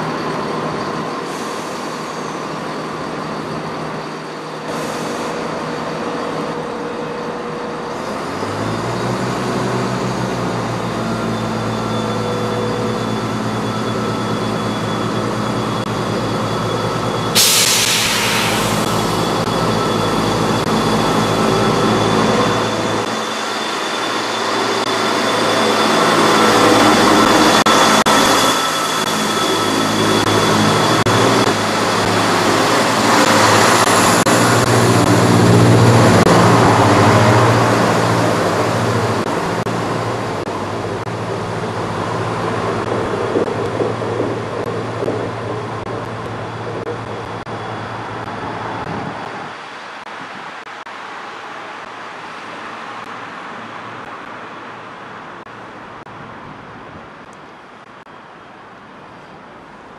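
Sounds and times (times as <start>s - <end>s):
train wheels rolling on rails: 0.0s - 51.2s
diesel train engines running: 0.0s - 59.9s.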